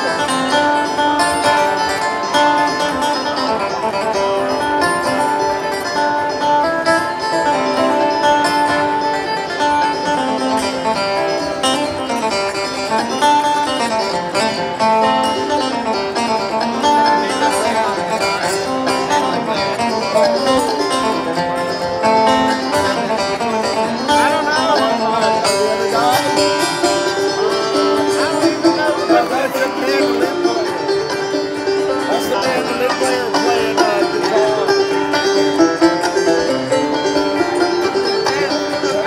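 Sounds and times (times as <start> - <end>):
acoustic guitar picking: 0.0 - 39.0
banjo: 0.0 - 39.0.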